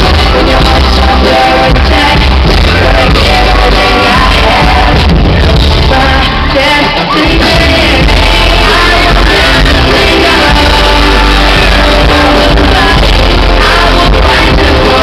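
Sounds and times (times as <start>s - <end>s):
fans shouting along: 0.0s - 15.0s
live pop song over sound system: 0.0s - 15.0s
person singing: 0.0s - 15.0s.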